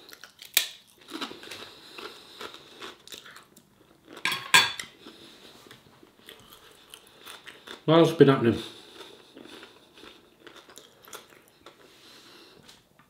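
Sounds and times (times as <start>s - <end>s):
person chewing crisp food: 0.0s - 4.2s, 4.8s - 7.9s, 8.6s - 12.6s.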